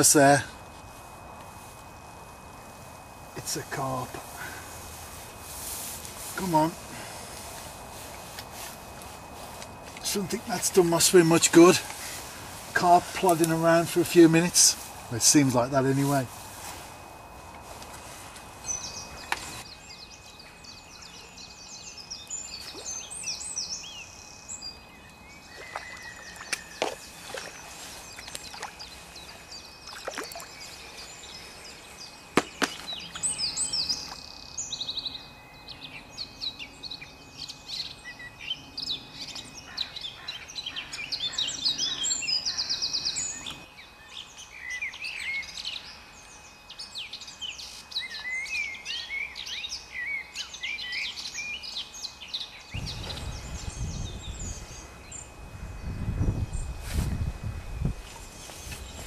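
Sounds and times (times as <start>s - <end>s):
songbirds singing: 1.5s - 59.0s.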